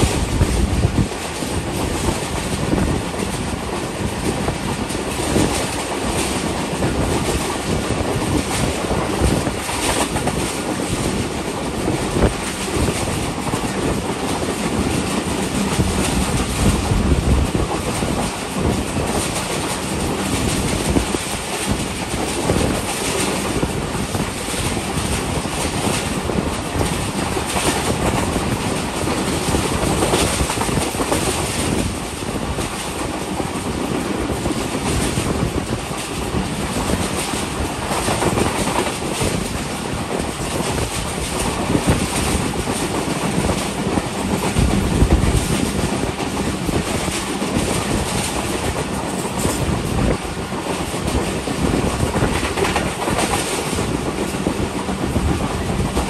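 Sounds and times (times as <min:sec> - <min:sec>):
train rolling and wind noise: 0:00.0 - 0:56.0.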